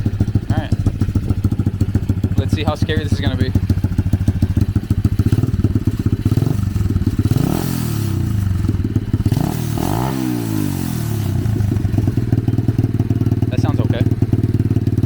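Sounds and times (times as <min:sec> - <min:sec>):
dirt bike engine idling and revving: 0:00.0 - 0:15.0.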